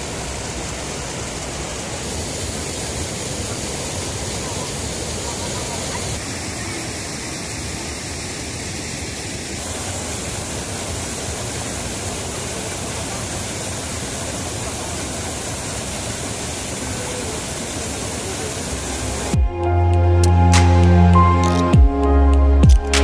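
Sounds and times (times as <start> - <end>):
water rushing over weir: 0.0 - 19.4.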